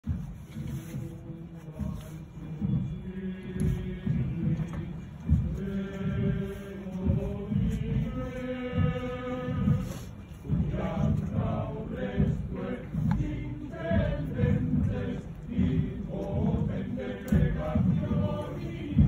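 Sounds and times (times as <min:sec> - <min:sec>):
men chanting together: 0:03.0 - 0:19.0.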